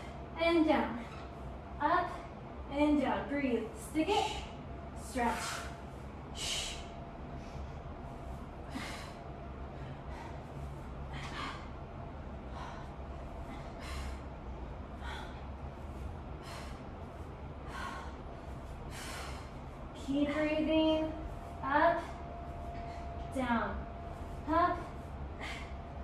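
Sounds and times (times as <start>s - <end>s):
faint steady hum: 0.0s - 26.0s
person breathing heavily: 5.2s - 26.0s.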